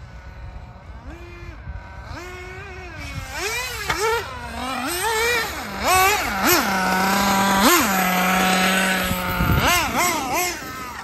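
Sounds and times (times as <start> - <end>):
radio-controlled buggy motor: 0.0 - 11.0.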